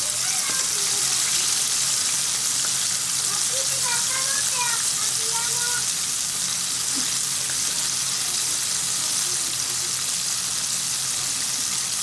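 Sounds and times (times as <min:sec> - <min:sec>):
chicken deep-frying in hot oil: 0:00.0 - 0:12.0.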